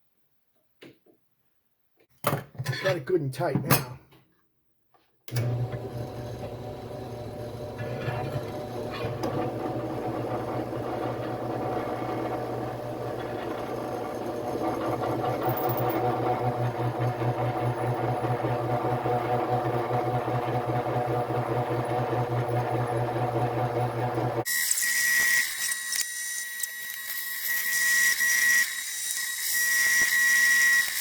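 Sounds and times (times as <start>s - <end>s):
electric drill boring through steel: 5.4s - 31.0s.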